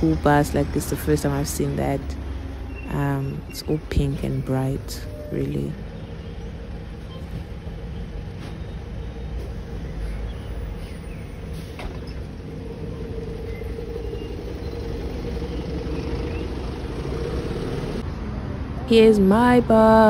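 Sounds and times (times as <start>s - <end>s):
bus engine running: 0.0s - 20.0s
road traffic: 0.0s - 20.0s.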